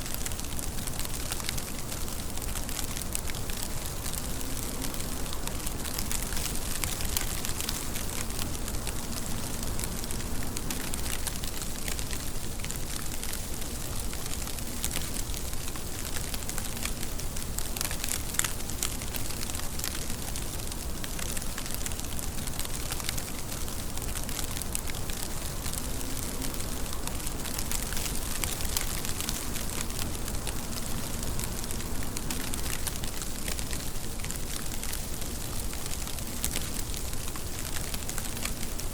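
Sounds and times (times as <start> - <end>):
rain drops striking a surface: 0.0 - 38.9.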